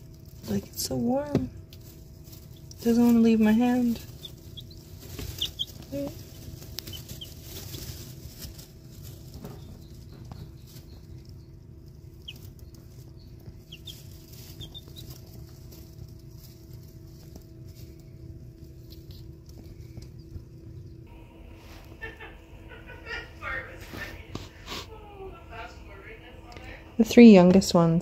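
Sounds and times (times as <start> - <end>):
chicks peeping: 0.0 - 24.6
scratching in wood shavings: 0.0 - 24.9
low hum: 0.0 - 28.0.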